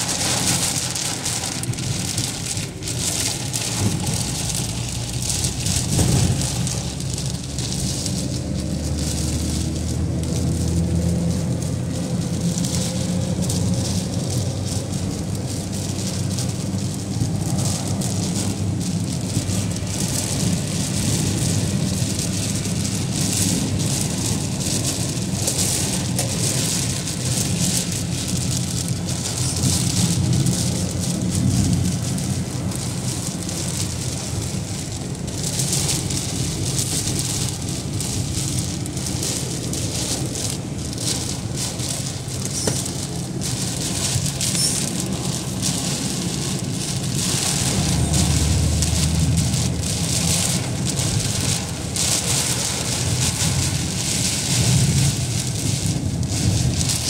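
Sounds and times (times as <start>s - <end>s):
car and tyres rumbling on wet road: 0.0s - 57.0s
heavy rain on car windshield: 0.0s - 57.0s.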